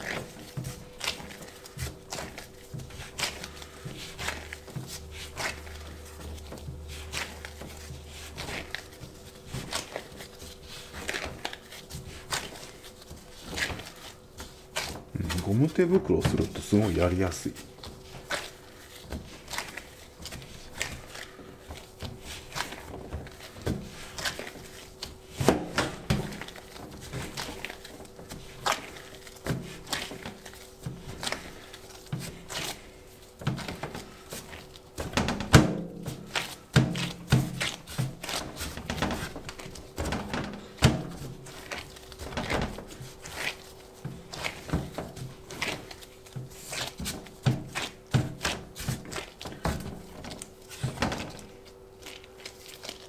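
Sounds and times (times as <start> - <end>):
dough kneading thumps and slaps: 0.0 - 53.0.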